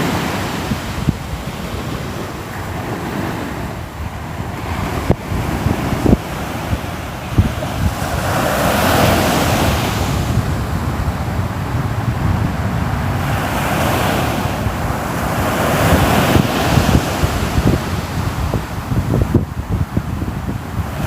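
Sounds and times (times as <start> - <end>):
waves breaking: 0.0 - 21.0
wind rumbling on microphone: 0.0 - 21.0.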